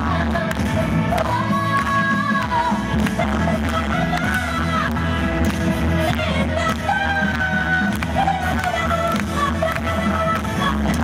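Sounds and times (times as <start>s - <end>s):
amplified backing music: 0.0s - 11.0s
woman singing into microphone: 0.0s - 11.0s.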